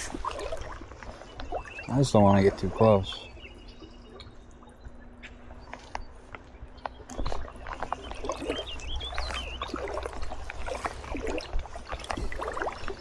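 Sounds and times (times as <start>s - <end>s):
low rumble of water: 0.0s - 13.0s
wading through shallow water: 0.0s - 13.0s.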